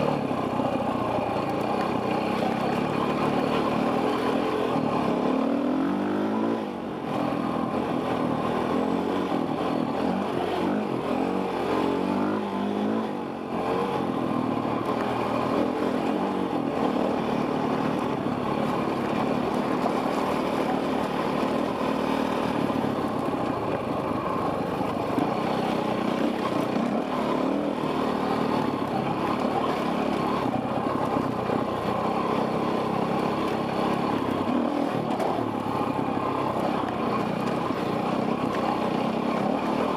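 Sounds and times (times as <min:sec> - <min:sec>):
dirt bike engine revving: 0:00.0 - 0:23.4, 0:24.1 - 0:39.9.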